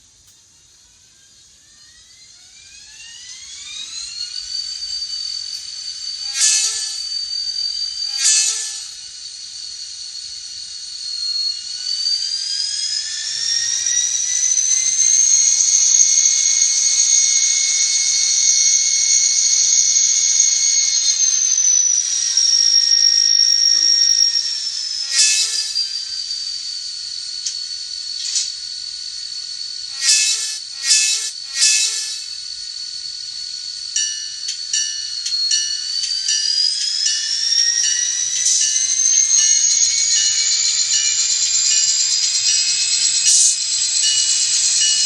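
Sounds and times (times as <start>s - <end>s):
model locomotive diesel engine sound: 0.0s - 45.0s.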